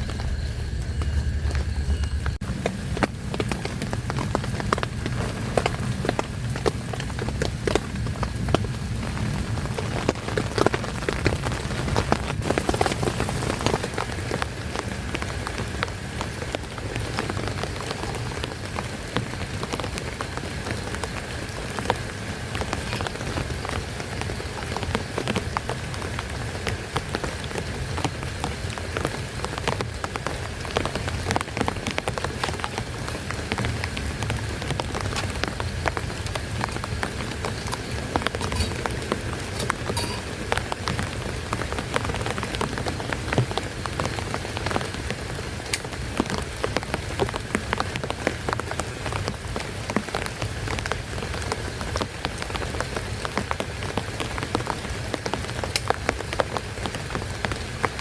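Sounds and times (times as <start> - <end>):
heavy rain falling: 0.0 - 58.0
raindrops tapping on a surface: 0.0 - 58.0.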